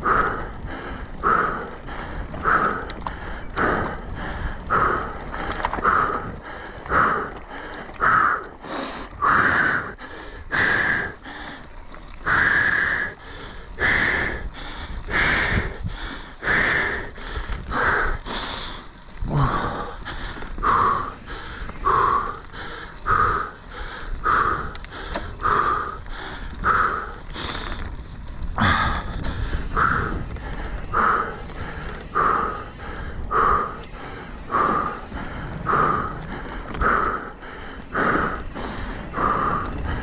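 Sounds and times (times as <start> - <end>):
person breathing hard: 0.0 - 40.0.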